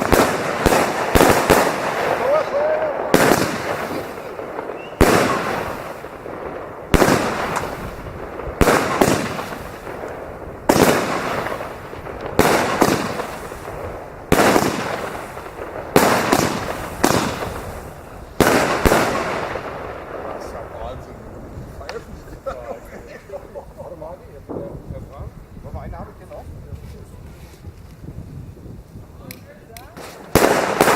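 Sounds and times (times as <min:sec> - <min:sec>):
fireworks bangs: 0:00.0 - 0:28.2, 0:29.6 - 0:30.9.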